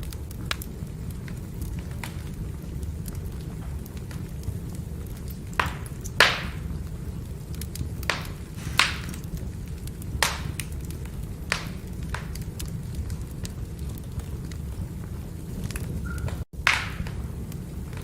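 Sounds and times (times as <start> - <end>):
burning firewood crackling: 0.0 - 18.0.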